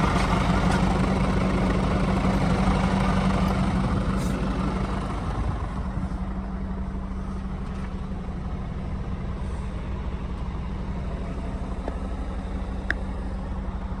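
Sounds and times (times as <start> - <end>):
diesel truck idling: 0.0 - 14.0.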